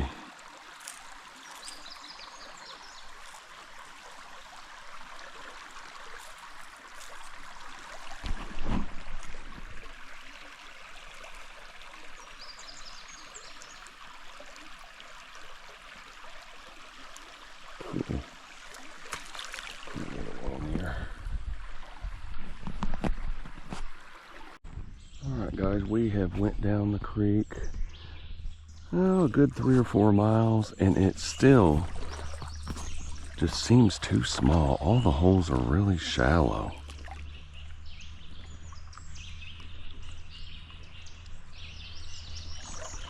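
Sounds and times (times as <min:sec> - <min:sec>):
creek water rushing: 0:00.0 - 0:24.6, 0:28.9 - 0:43.0.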